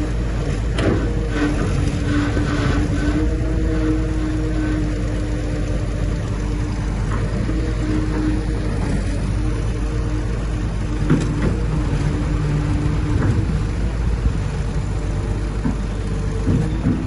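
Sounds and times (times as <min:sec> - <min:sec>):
diesel machinery running: 0:00.0 - 0:17.0.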